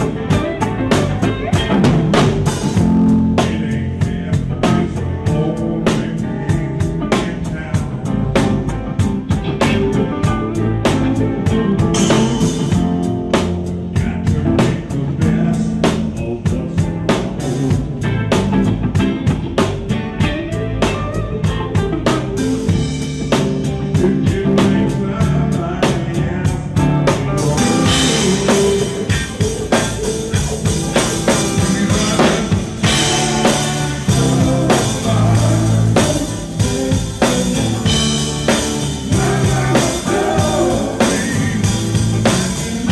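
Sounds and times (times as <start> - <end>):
drum kit beat: 0.0 - 42.9
rock band playing: 0.0 - 42.9.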